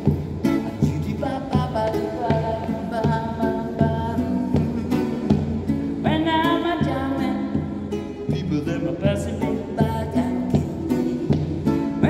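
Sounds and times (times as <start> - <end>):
classical guitar strumming: 0.0 - 12.0
man singing: 0.4 - 12.0.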